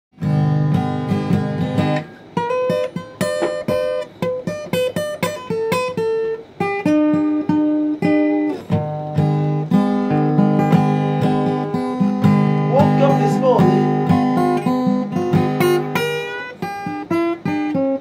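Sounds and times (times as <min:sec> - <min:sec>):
acoustic guitar playing blues: 0:00.2 - 0:18.0.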